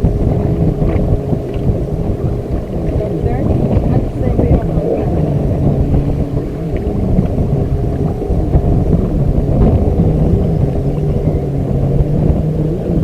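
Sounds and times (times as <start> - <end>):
low droning tone: 0.0 - 13.0
wind buffeting microphone: 0.0 - 13.0.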